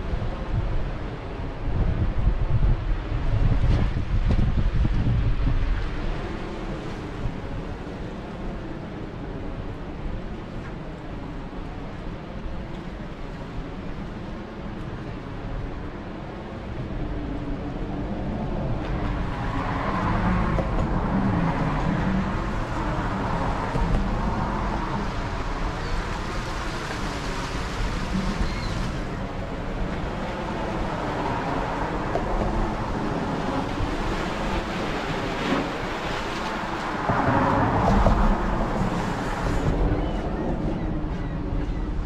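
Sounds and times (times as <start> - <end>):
ocean surf: 0.0 - 42.0
wind rumbling on microphone: 0.0 - 42.0
moving water: 5.3 - 42.0.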